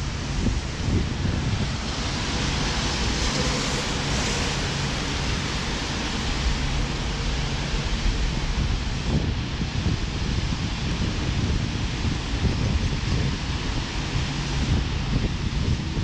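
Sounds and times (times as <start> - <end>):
traffic hiss on wet roads: 0.0 - 16.0
wind buffeting microphone: 0.0 - 16.0.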